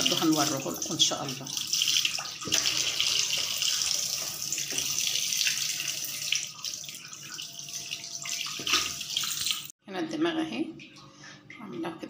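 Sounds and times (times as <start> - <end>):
tap water running into sink: 0.0 - 9.7.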